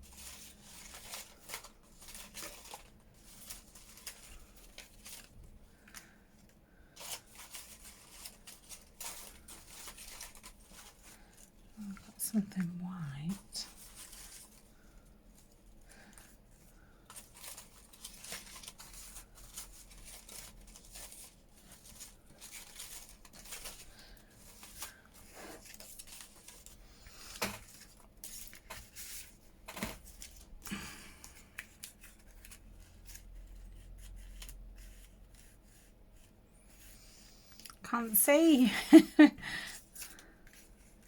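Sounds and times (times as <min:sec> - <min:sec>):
paper rustling: 0:00.0 - 0:12.1, 0:13.3 - 0:37.7.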